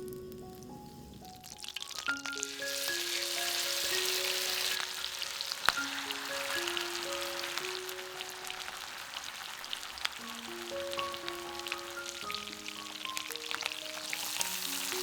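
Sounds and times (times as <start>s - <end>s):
light music with plucked notes: 0.0s - 9.0s, 10.1s - 15.0s
food sizzling in a pan: 0.0s - 15.0s.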